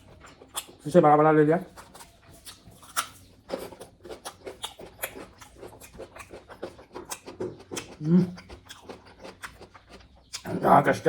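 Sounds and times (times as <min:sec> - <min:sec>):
close chewing mouth smacks: 0:00.0 - 0:01.0, 0:01.6 - 0:10.8.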